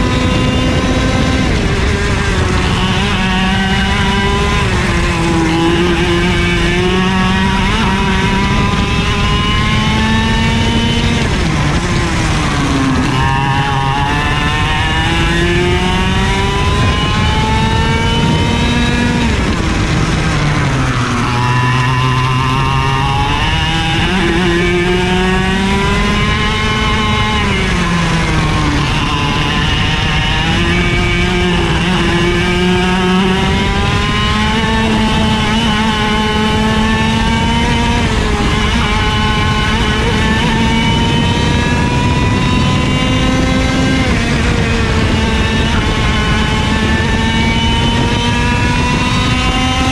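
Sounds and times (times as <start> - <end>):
two-stroke kart engine revving: 0.0 - 49.9.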